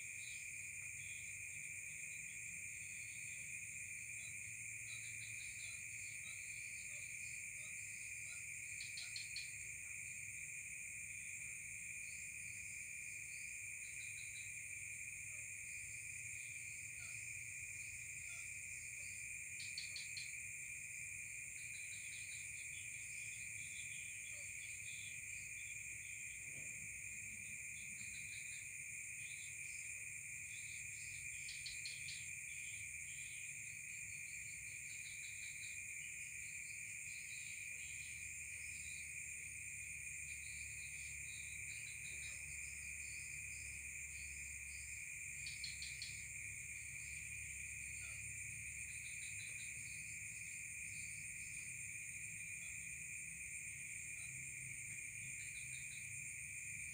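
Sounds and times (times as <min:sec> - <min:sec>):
crickets trilling: 0:00.0 - 0:56.9
insect chirps: 0:00.0 - 0:56.9.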